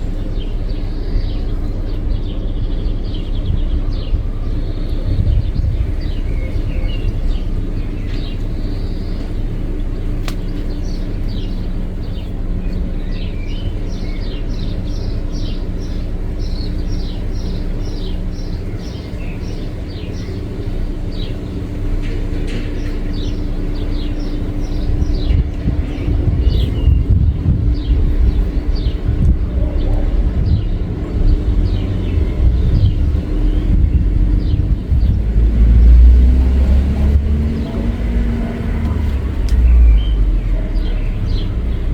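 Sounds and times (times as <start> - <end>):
low rumble: 0.0 - 41.9
songbirds chirping and twittering: 0.0 - 41.9.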